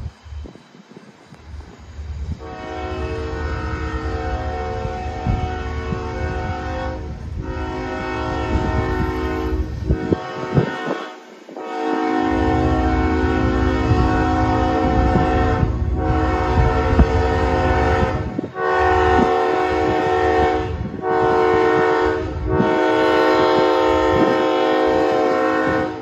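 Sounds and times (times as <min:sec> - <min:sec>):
locomotive horn blasts: 0:02.4 - 0:26.0.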